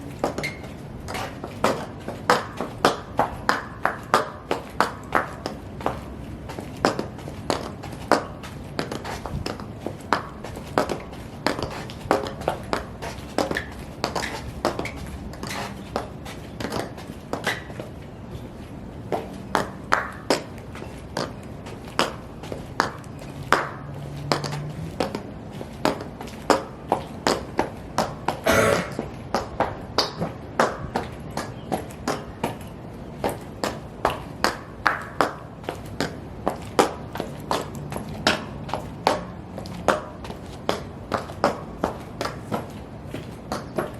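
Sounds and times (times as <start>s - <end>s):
high heels clicking on hard floor: 0.1s - 17.9s, 19.1s - 43.9s.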